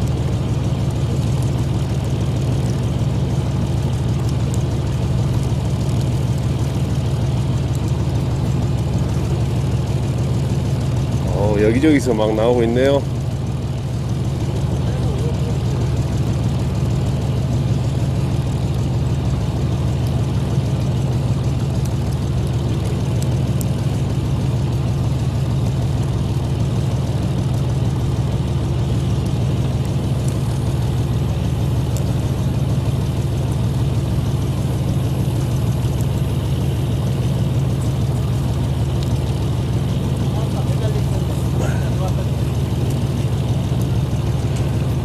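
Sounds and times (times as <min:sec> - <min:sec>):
boat engine humming: 0:00.0 - 0:45.0.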